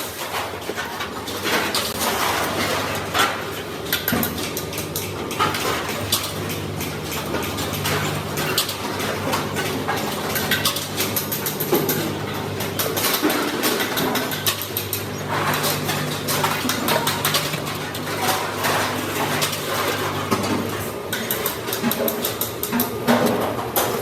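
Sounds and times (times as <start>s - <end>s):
low machine hum: 0.3s - 24.0s.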